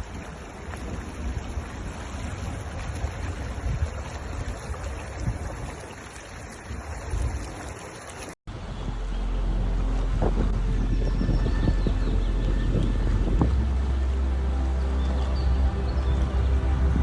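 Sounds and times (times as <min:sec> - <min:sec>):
wind buffeting microphone: 0:00.0 - 0:14.2
floodwater rushing: 0:00.0 - 0:17.0.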